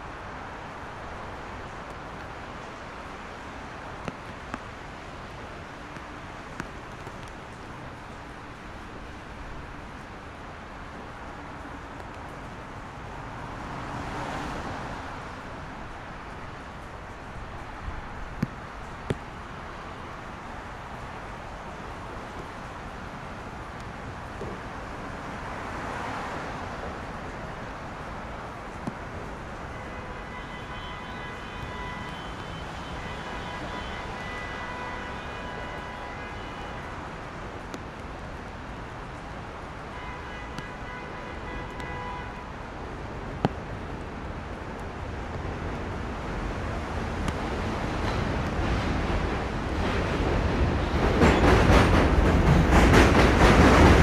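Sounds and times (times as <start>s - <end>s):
tyres hissing on wet road: 0.0s - 51.0s.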